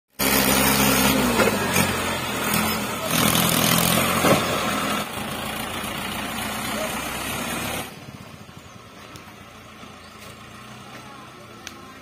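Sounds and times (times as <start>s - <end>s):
tractor diesel engine under load: 0.1s - 12.0s.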